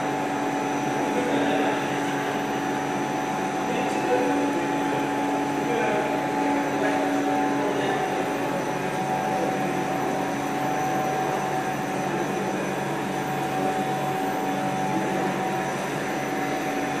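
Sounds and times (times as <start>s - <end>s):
machine mechanical hum: 0.0s - 17.0s
constant whining tones: 0.1s - 17.0s.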